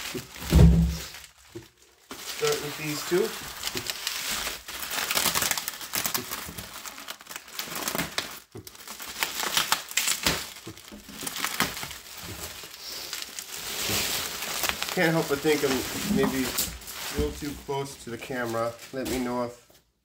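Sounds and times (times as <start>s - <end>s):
bubble wrap crinkling and crackling: 0.0s - 19.7s.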